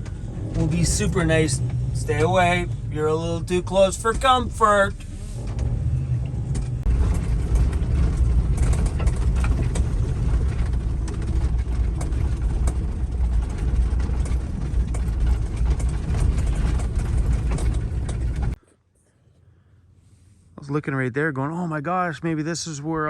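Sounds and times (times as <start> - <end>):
van engine low rumble: 0.0 - 18.6
vehicle body rattling: 0.0 - 18.6.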